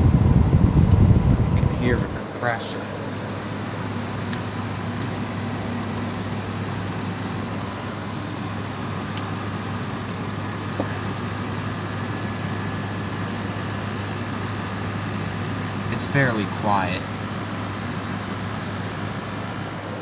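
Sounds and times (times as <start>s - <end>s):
air conditioner compressor hum: 0.0s - 20.0s
fan rushing: 0.0s - 20.0s.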